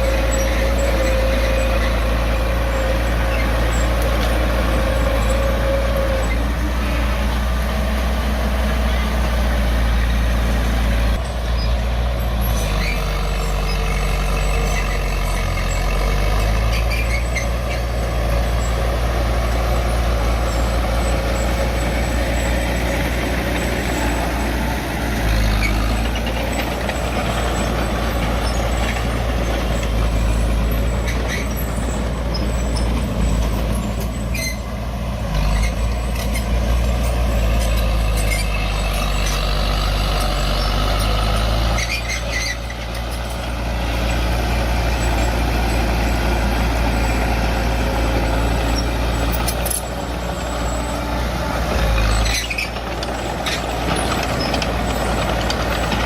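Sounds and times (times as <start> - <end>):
heavy machinery engine running: 0.0 - 56.0.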